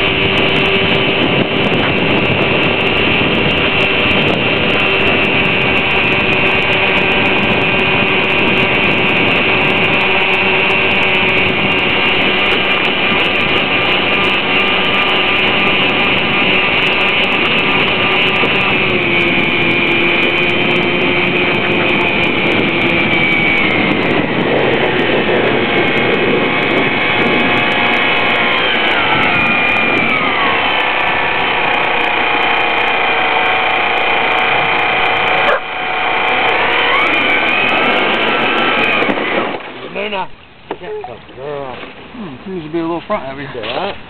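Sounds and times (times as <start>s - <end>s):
electric motor whining: 0.0s - 42.4s.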